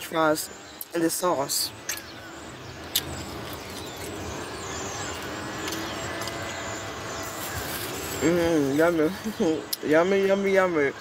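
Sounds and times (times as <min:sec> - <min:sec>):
vehicle interior noise: 0:00.0 - 0:11.0.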